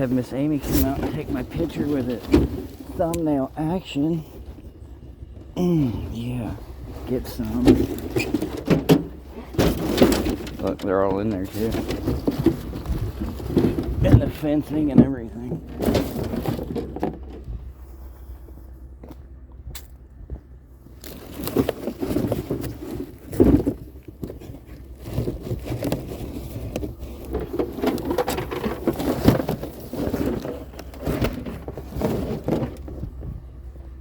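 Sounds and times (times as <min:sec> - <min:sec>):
objects scraping and knocking: 0:00.0 - 0:04.7, 0:06.6 - 0:17.6, 0:21.1 - 0:33.4.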